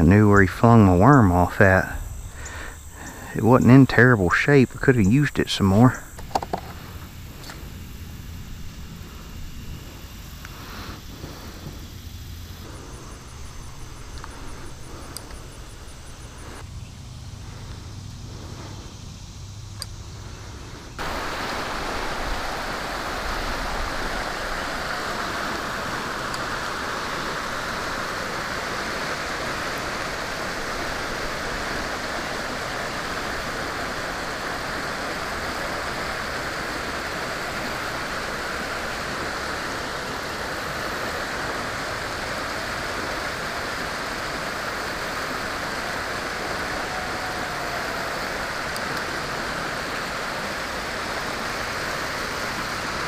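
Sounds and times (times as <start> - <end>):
water rushing over spillway: 0.0 - 16.6, 21.0 - 53.0.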